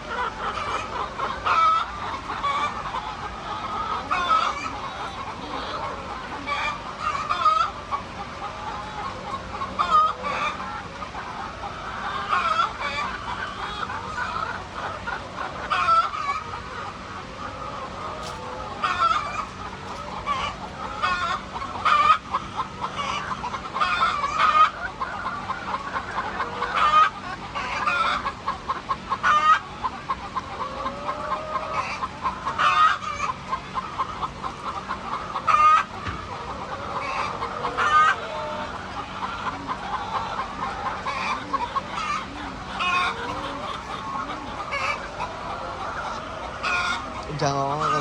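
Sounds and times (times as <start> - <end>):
chickens clucking: 0.0 - 48.0
loud chicken calls: 0.0 - 48.0.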